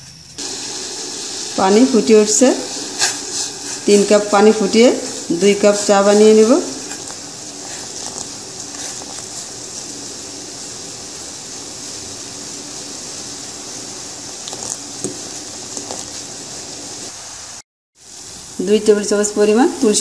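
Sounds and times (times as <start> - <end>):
water boiling hard in pot: 0.4 - 20.0.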